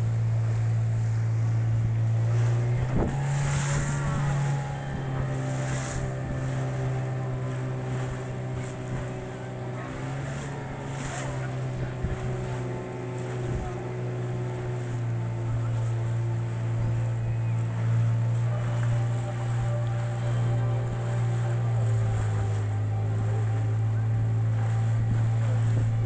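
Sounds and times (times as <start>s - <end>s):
motorboat engine humming: 0.0s - 26.0s
water rushing past hull: 0.0s - 26.0s
wind buffeting microphone: 1.6s - 26.0s.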